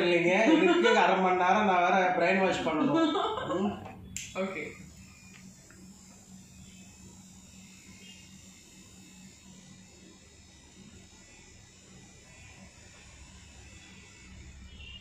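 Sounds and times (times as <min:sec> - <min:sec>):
electric tattoo machine buzzing: 0:00.0 - 0:15.0.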